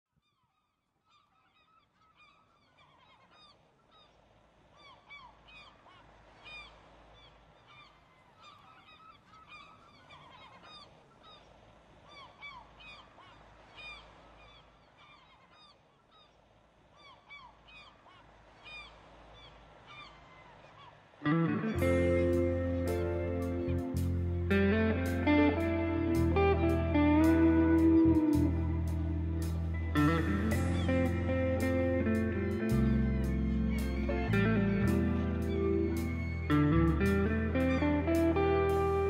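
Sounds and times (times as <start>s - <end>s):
flock of birds calling: 1.1s - 39.0s.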